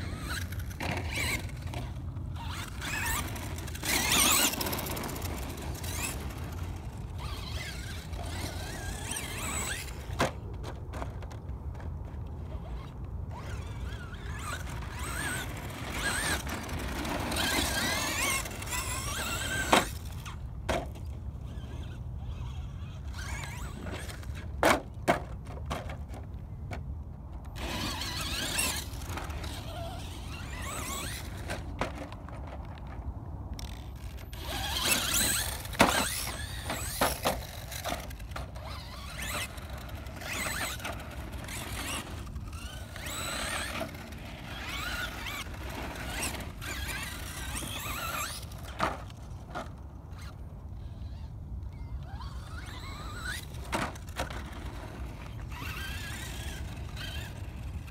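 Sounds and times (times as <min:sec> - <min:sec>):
electric motor and gears whining: 0:00.0 - 0:20.6, 0:27.5 - 0:32.0, 0:33.5 - 0:49.4, 0:50.1 - 0:57.9.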